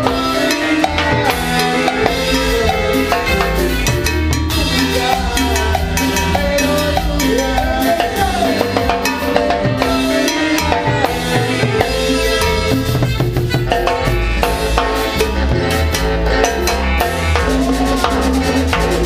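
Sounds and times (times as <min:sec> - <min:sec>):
latin dance band playing: 0:00.0 - 0:19.0.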